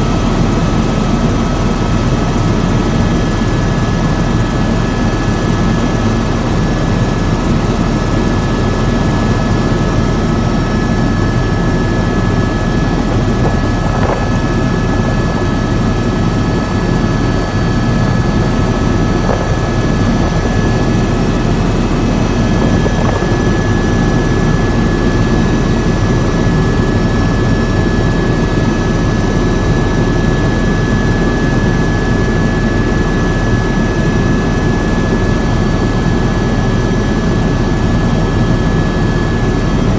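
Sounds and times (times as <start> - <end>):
helicopter rotor rumble: 0.0 - 39.9
turbine whine: 0.0 - 39.9.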